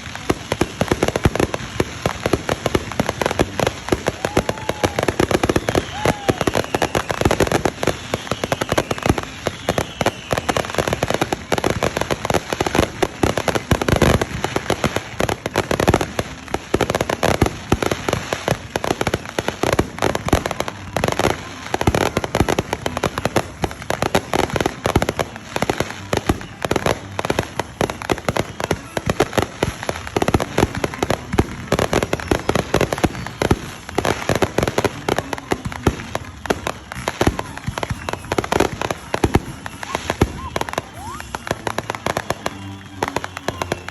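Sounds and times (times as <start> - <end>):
fireworks bangs: 0.0 - 43.9
fireworks popping and crackling: 0.0 - 43.9.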